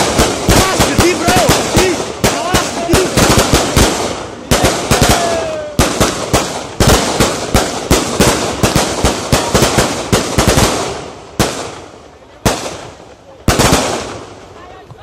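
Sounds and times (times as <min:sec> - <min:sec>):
firecrackers banging: 0:00.0 - 0:15.0.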